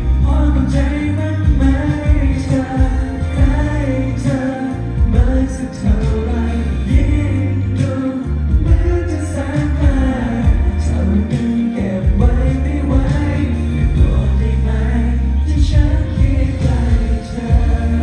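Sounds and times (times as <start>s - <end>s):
amplified pop song: 0.0s - 18.0s
person singing: 0.0s - 18.0s.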